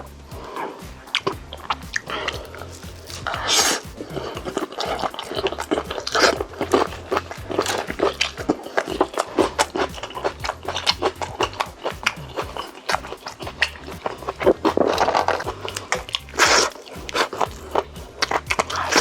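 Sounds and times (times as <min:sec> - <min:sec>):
background music: 0:00.0 - 0:19.0
chewing with wet smacks and crunches: 0:00.0 - 0:19.0.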